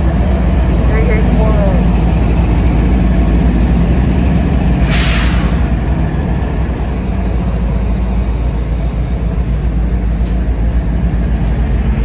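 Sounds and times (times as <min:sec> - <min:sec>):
diesel locomotive rumbling: 0:00.0 - 0:12.0
freight car rolling past: 0:00.0 - 0:12.0.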